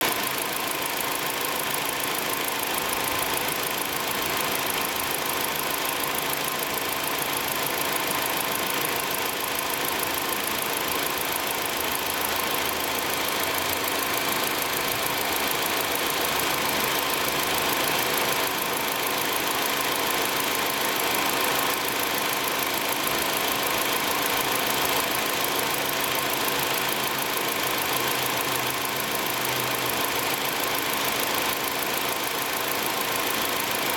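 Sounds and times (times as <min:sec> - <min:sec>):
compressor whirring over idling engine: 0:00.0 - 0:33.9.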